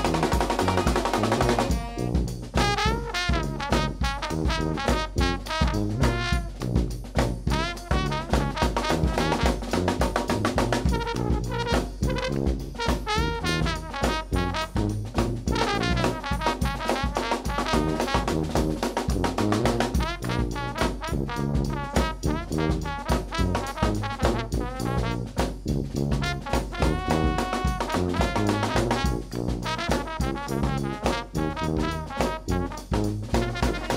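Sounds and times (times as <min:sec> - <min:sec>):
brass band playing: 0:00.0 - 0:33.9
trombone: 0:00.0 - 0:33.9.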